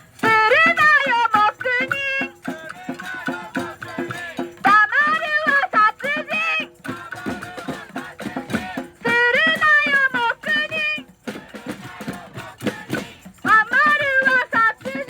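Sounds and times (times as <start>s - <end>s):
person singing: 0.2s - 11.0s, 11.9s - 15.0s.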